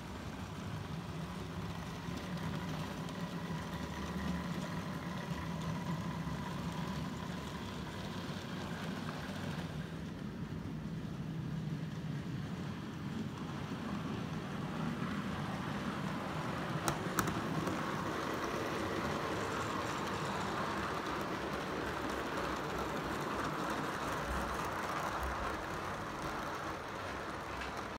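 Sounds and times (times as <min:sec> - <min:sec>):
model train rumbling on track: 0:00.0 - 0:27.9.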